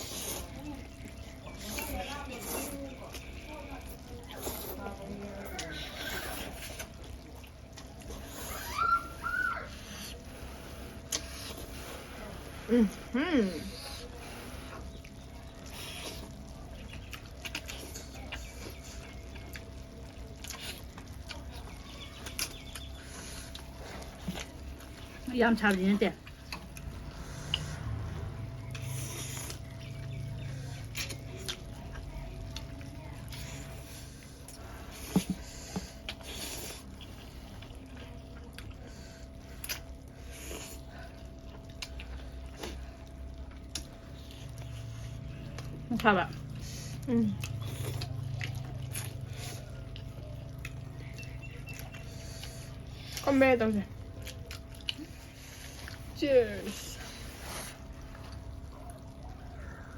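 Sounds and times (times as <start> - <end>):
person chewing noodles: 0.0 - 59.9.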